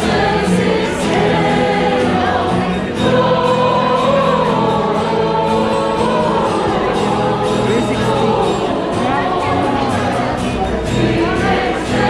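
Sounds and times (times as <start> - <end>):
choir singing: 0.0 - 12.0
musical accompaniment: 0.0 - 12.0.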